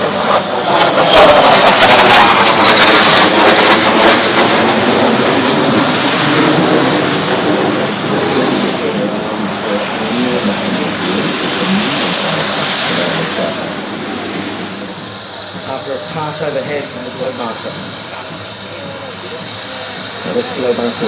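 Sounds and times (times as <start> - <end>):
military aircraft flying past: 0.0 - 21.0.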